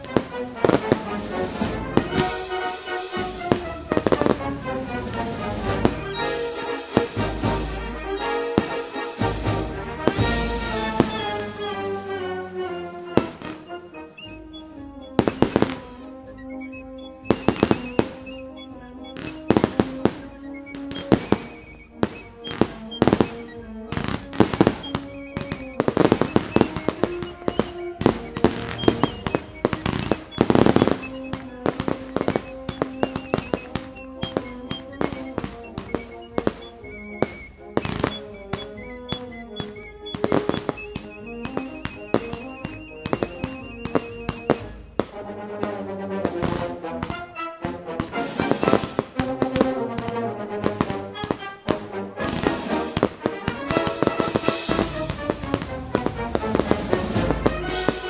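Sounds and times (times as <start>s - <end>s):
fireworks bangs: 0.0s - 58.0s
music with long held notes: 0.0s - 58.0s.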